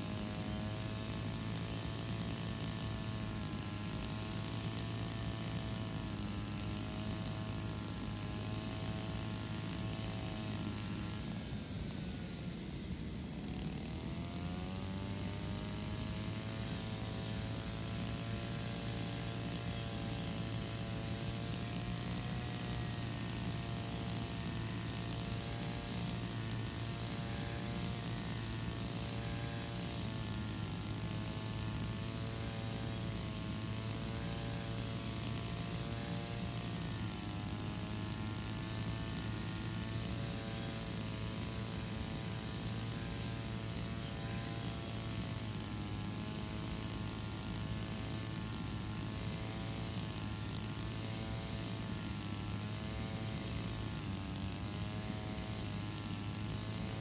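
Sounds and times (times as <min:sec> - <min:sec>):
brush cutter cutting grass: 0:00.0 - 0:57.0.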